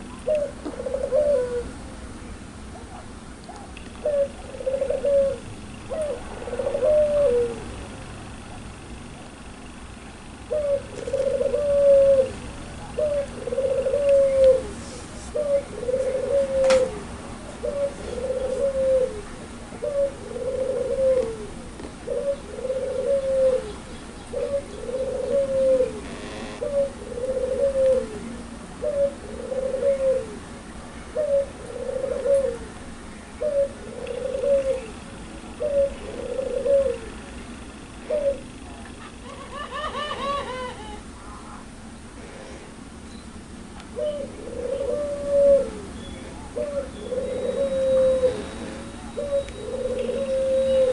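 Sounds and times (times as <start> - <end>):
dove cooing: 0.0 - 1.8, 2.6 - 9.4, 10.2 - 30.5, 31.1 - 41.7, 43.9 - 50.9.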